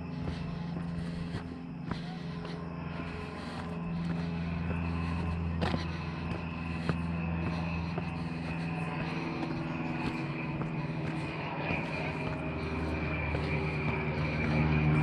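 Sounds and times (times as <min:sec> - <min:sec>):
distant engine drone: 0:00.0 - 0:15.0
footsteps crunching on gravel: 0:00.0 - 0:15.0.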